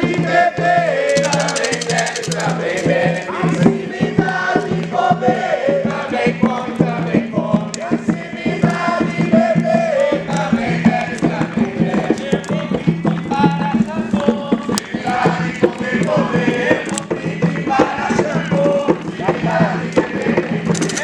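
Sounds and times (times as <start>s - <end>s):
group singing a chant: 0.0s - 21.0s
music with quick steady beat: 0.0s - 21.0s.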